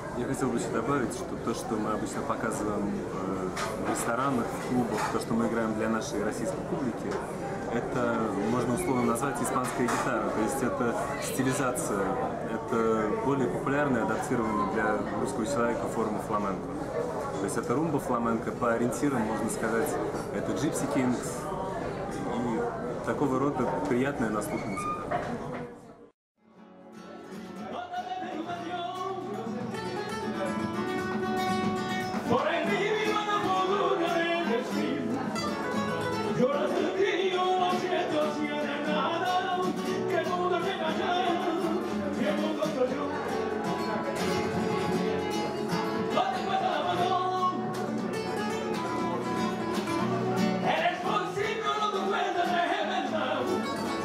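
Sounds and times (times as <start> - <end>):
two guitars playing flamenco: 0.0 - 22.3, 22.9 - 25.6, 26.4 - 54.0.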